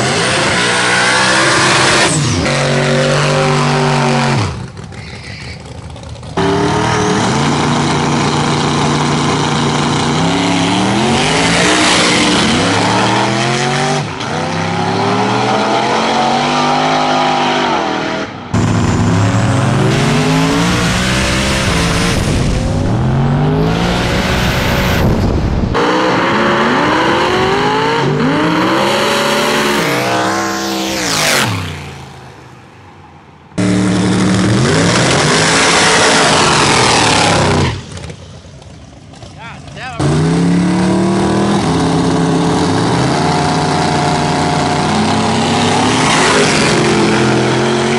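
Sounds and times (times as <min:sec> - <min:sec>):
race cars accelerating hard: 0:06.4 - 0:32.1, 0:33.6 - 0:38.1, 0:39.6 - 0:47.9.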